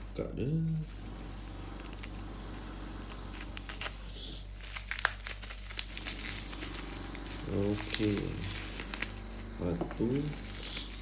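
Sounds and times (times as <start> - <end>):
bubble wrap crackling and tearing: 0.0 - 11.0
steady low hum: 0.0 - 11.0.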